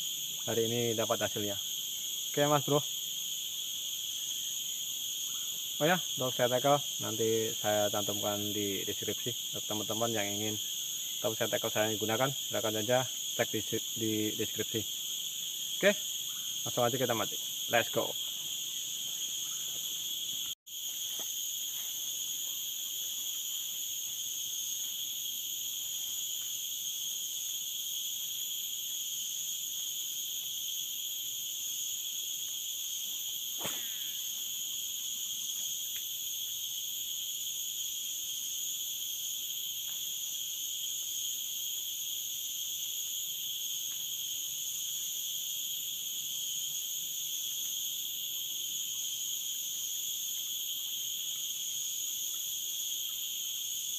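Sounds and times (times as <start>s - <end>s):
shrill forest insects chorus: 0.0s - 53.9s.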